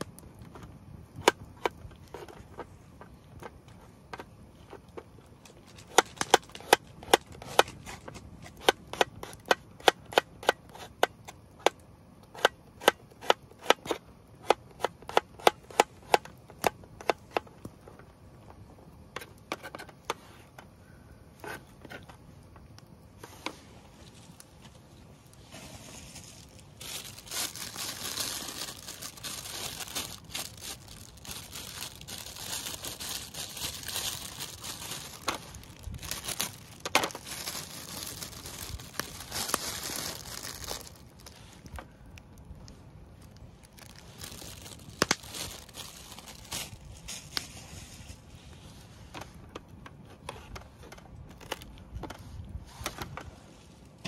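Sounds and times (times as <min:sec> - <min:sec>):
steady rustling hiss: 0:00.0 - 0:54.0.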